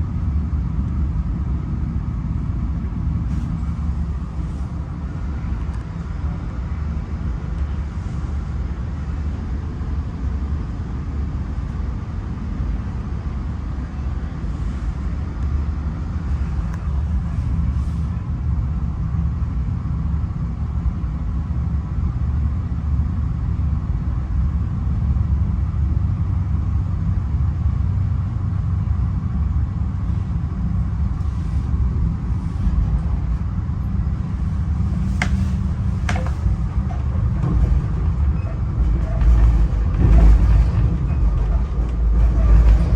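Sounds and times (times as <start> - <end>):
rail car rumbling: 0.0 - 42.9.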